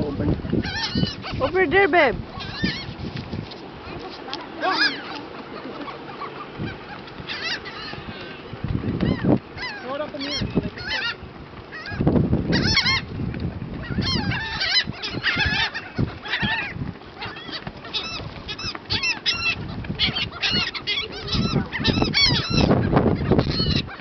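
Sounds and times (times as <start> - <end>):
seagulls squawking: 0.0 - 24.0.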